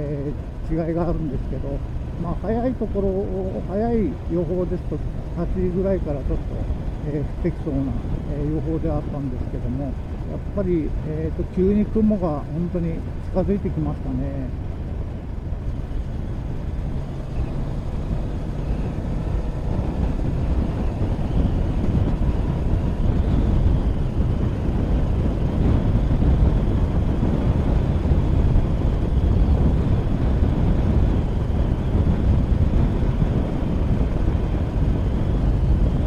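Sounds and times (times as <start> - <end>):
motorcycle engine hum: 0.0 - 36.0
wind rushing on microphone: 0.0 - 36.0.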